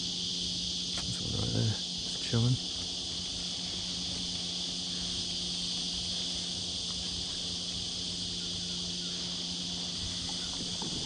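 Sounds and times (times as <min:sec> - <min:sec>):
cicada chorus droning: 0:00.0 - 0:11.0.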